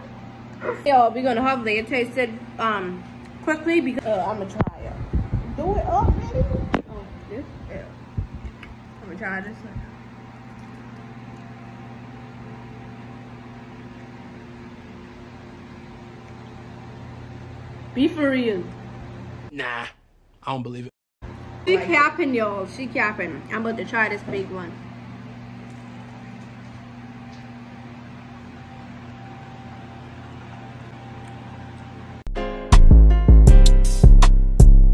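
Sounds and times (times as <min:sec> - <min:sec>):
appliance motor humming: 0:00.0 - 0:19.5, 0:21.2 - 0:32.2.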